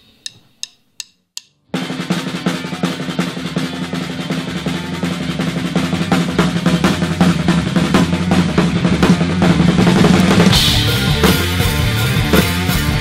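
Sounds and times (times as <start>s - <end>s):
rock band with guitars: 1.7s - 13.0s
fast drum roll: 1.8s - 13.0s.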